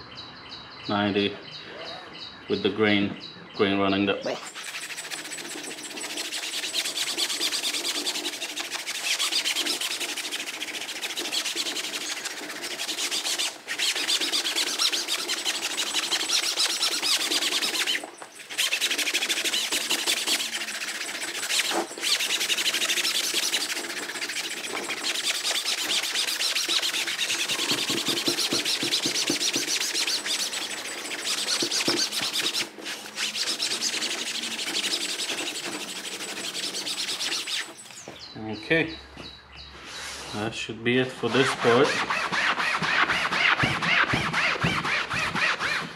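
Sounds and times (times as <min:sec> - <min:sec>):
sponge pad scrubbing upholstery: 0:04.4 - 0:38.0, 0:41.2 - 0:45.9.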